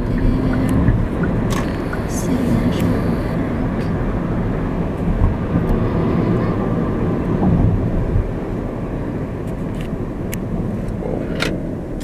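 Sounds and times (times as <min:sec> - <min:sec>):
car driving road noise: 0:00.0 - 0:12.0.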